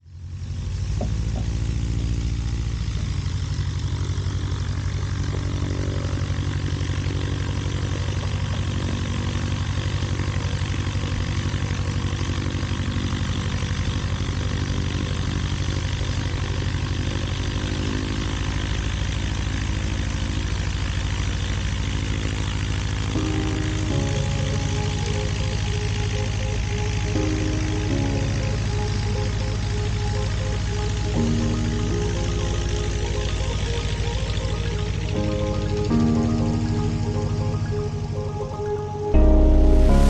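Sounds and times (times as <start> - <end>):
light aircraft engine and propeller: 0.0 - 40.0.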